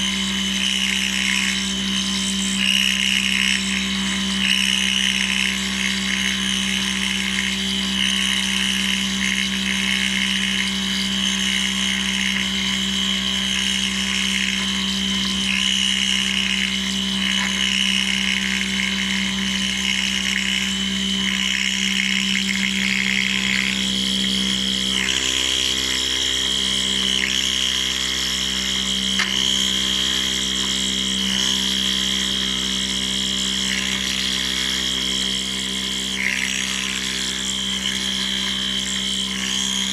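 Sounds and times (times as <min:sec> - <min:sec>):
milling machine cutting metal: 0:00.0 - 0:39.9.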